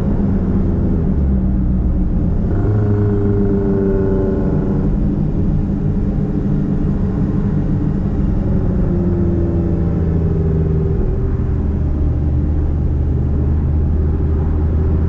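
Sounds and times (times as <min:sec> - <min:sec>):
car exhaust droning: 0:00.0 - 0:15.0.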